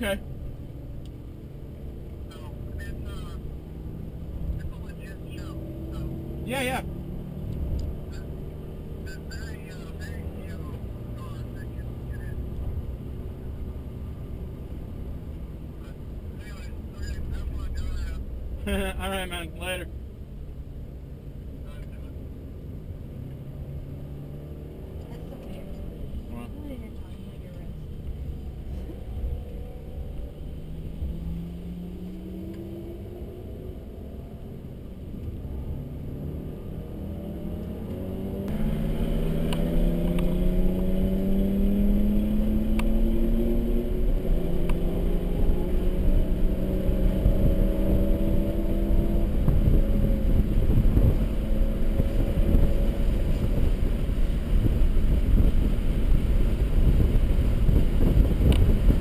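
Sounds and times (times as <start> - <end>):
car engine accelerating: 0.0 - 59.0
tyre and road rumble: 0.0 - 59.0.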